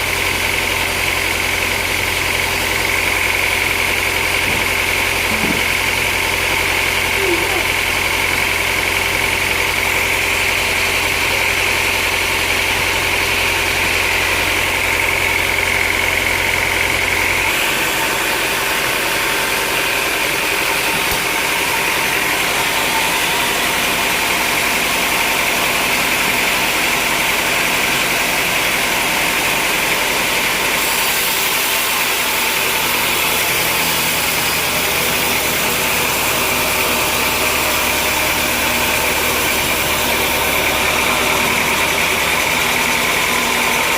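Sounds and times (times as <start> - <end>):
sawmill machinery whining: 0.0 - 43.9.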